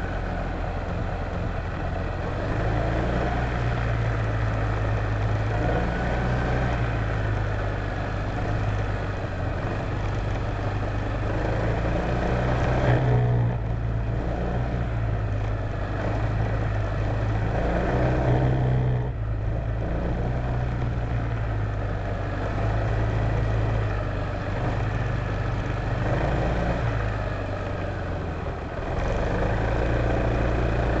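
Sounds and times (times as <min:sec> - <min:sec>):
scooter engine droning: 0:00.0 - 0:31.0.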